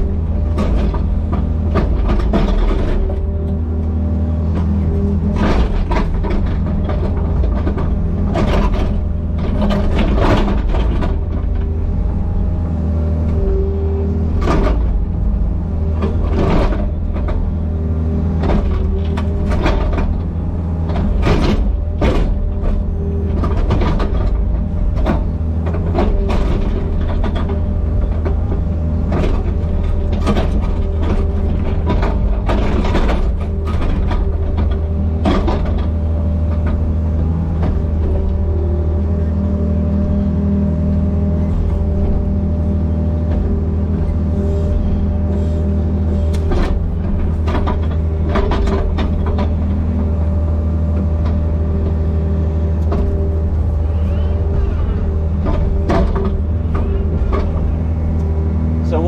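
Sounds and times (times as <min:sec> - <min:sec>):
machine knocks and clanks: 0:00.0 - 0:03.7, 0:04.4 - 0:39.2, 0:41.0 - 0:59.0
excavator diesel engine running: 0:00.0 - 0:59.0.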